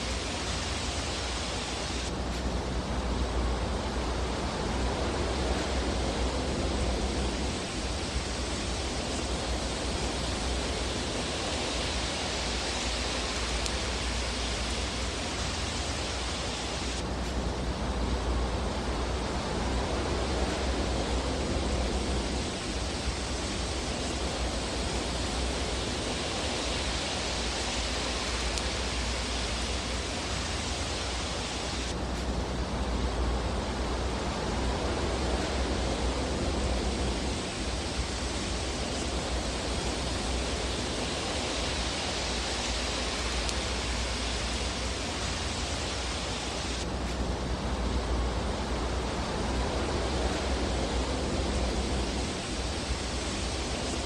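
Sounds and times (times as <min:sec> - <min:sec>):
fireplace fire hissing: 0:00.0 - 0:54.0.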